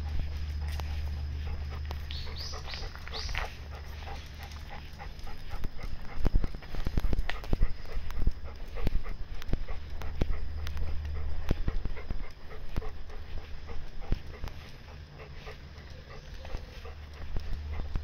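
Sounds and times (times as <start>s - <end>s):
footsteps on asphalt: 0.0s - 18.0s.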